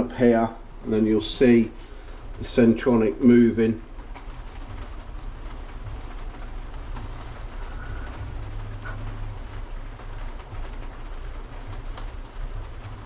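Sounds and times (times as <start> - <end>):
machine low hum with hiss: 0.0 - 13.0.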